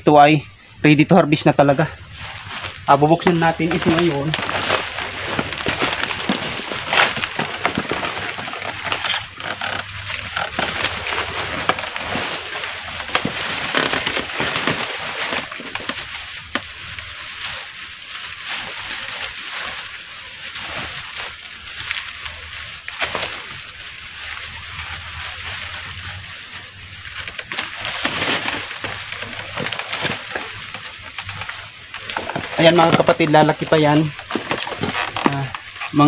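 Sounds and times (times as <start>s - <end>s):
plastic bag crinkling: 1.4s - 36.0s.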